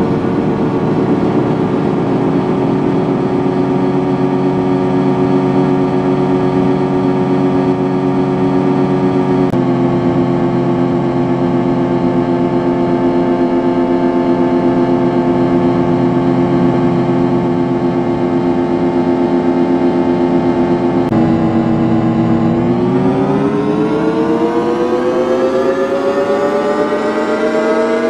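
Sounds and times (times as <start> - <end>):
electronic buzzing drone: 0.0 - 28.0.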